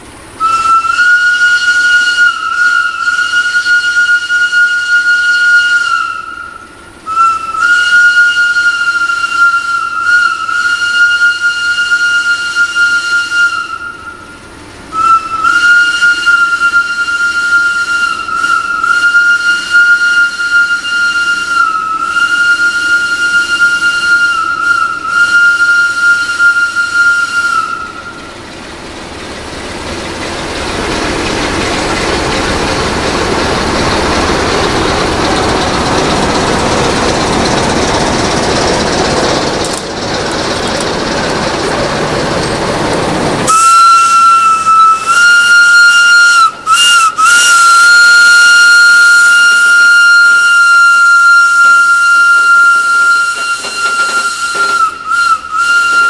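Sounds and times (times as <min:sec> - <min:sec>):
locomotive whistling tone: 0:00.0 - 0:56.0
train rumbling: 0:00.0 - 0:56.0.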